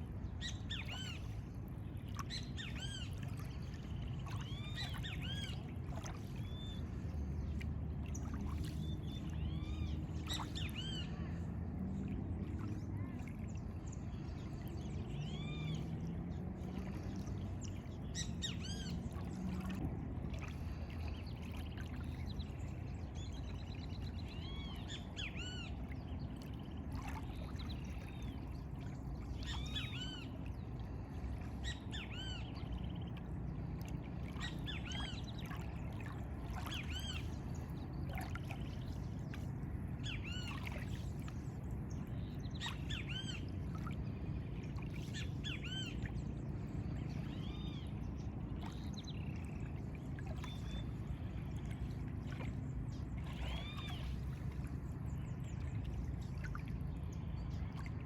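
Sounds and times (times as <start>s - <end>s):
low background rumble: 0.0s - 58.0s.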